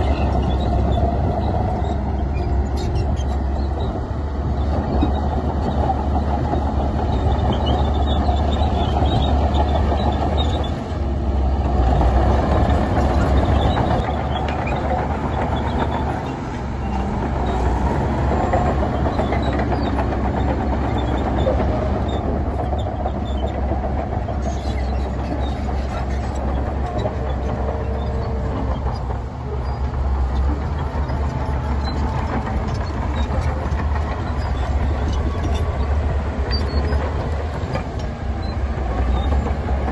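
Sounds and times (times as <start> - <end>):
heavy machinery diesel rumble: 0.0 - 39.9
machinery clanks and rattles: 0.0 - 39.9.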